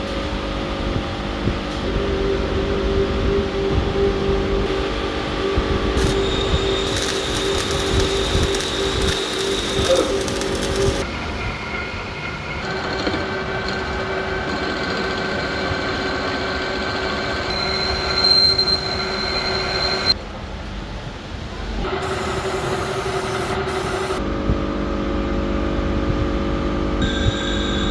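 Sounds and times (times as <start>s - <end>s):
machinery droning whine: 0.0s - 20.3s, 21.8s - 27.9s.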